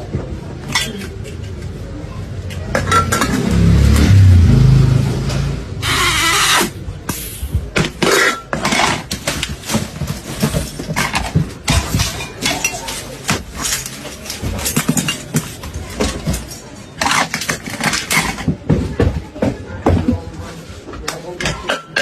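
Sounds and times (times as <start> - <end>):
hard objects clinking and knocking: 0.0 - 4.2, 6.5 - 22.0.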